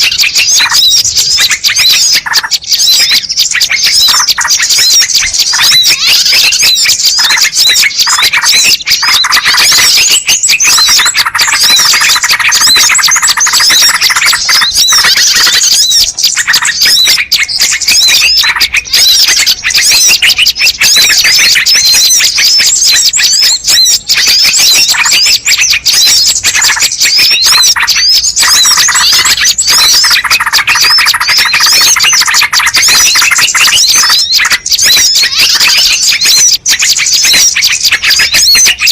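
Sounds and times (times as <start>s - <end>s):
chorus of small birds chirping: 0.0s - 38.9s
low bird trilling: 0.0s - 38.9s.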